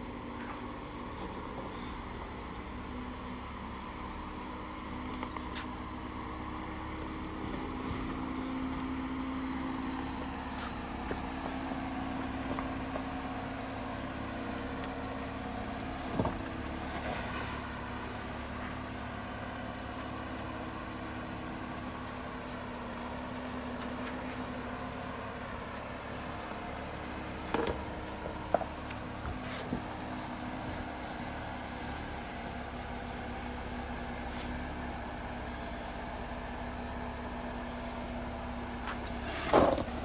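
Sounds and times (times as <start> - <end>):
truck engine running low: 0.0 - 40.0.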